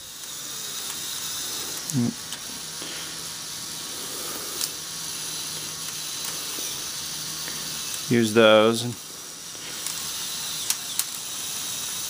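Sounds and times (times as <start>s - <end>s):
toy motor humming: 0.0s - 12.0s.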